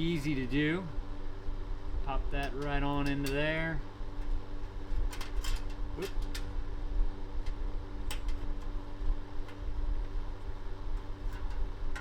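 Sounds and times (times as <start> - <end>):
space heater fan humming: 0.0 - 12.0.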